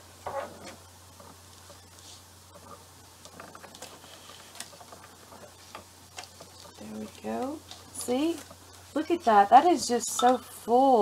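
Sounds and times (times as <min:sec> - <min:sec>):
rustling and ticking of trims: 0:00.6 - 0:10.4.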